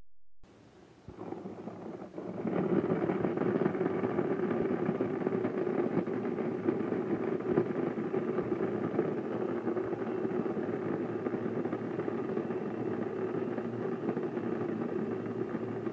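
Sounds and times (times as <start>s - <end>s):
electric blender running: 2.4s - 15.9s.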